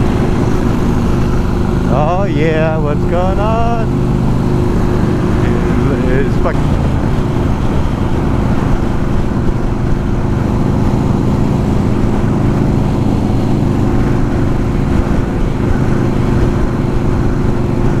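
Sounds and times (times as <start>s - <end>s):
motorcycle engine cruising: 0.0s - 18.0s
road noise: 0.0s - 18.0s
wind noise: 0.0s - 18.0s.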